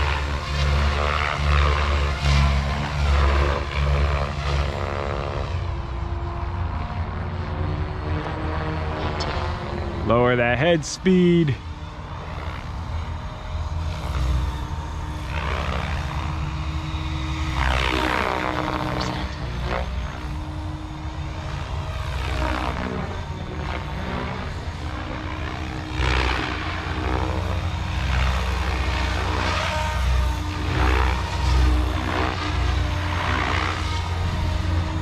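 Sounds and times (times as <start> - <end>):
rc helicopter buzzing whine: 0.0 - 35.0.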